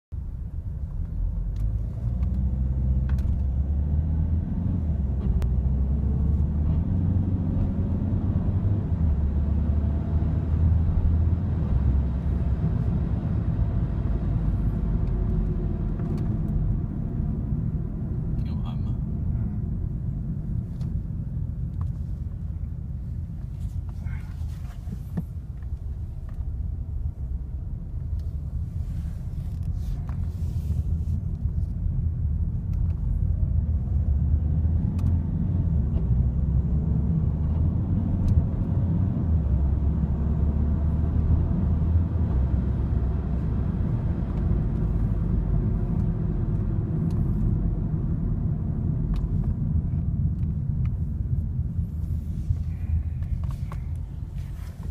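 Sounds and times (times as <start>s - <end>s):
diesel car engine: 0.1s - 54.9s
road rumble: 0.1s - 54.9s.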